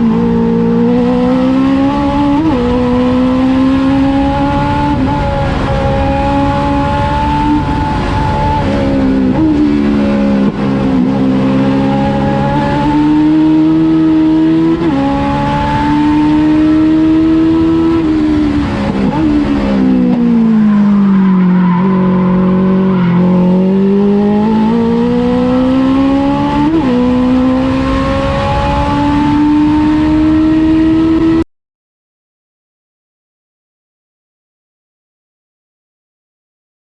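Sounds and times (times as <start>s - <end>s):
race car engine revving: 0.0s - 31.4s.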